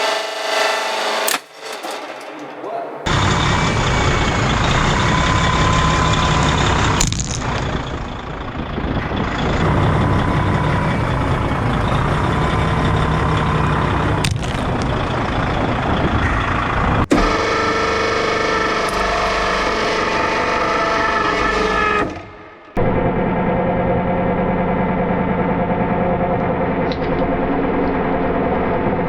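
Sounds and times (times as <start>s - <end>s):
heavy truck engine running: 0.0s - 29.0s.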